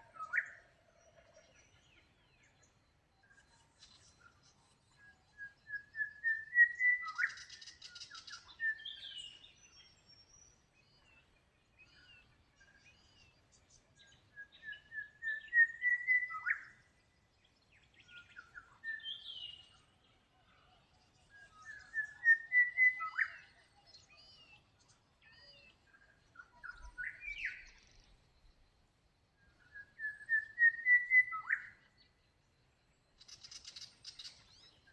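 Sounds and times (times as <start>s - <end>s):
songbird whistled song: 0.0s - 34.9s.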